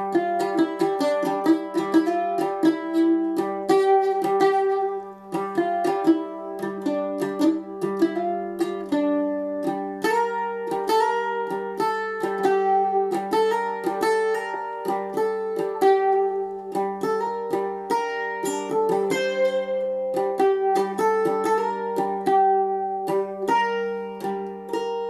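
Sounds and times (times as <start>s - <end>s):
mandolin playing fast melody: 0.0s - 25.0s.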